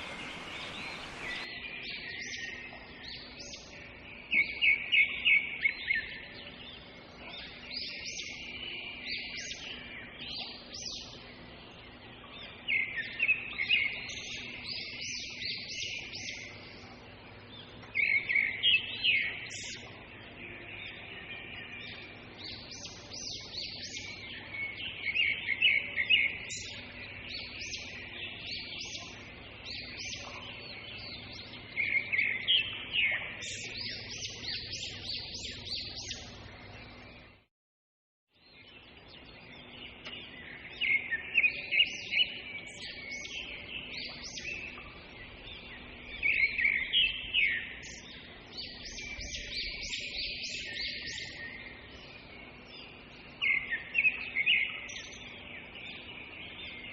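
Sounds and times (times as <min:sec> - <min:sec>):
birds chirping: 0:00.0 - 0:37.5, 0:38.4 - 0:56.9.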